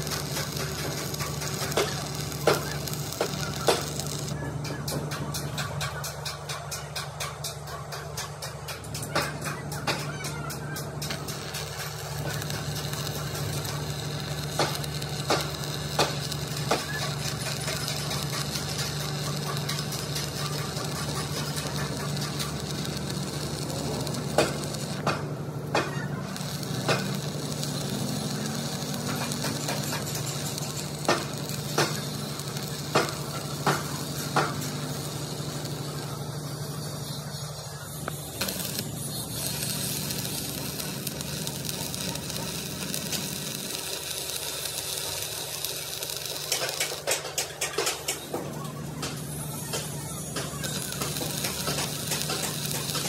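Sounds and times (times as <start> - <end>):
crackly hiss: 0.0 - 4.4, 10.9 - 25.2, 25.8 - 36.8, 37.7 - 48.2, 49.2 - 53.0
steady machine hum: 0.0 - 5.8, 8.0 - 47.6.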